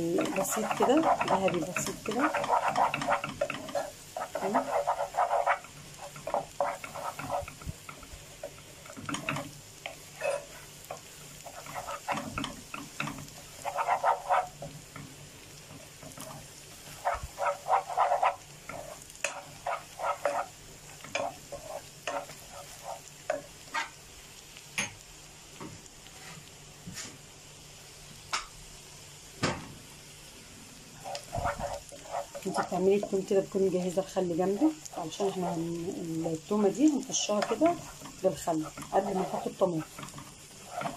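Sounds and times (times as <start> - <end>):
wooden spoon scraping a pan: 0.0 - 24.0, 26.1 - 27.2, 30.9 - 40.9
garlic sizzling in butter: 0.0 - 40.9.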